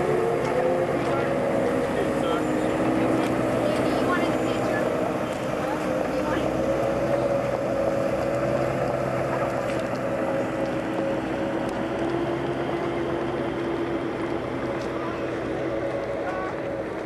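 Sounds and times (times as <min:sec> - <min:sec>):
armoured vehicle engine droning: 0:00.0 - 0:17.0.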